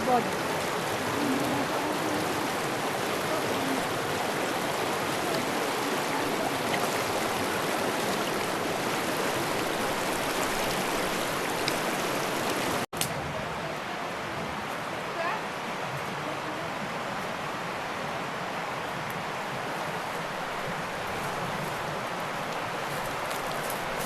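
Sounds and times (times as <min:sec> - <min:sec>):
river rushing: 0:00.0 - 0:24.0.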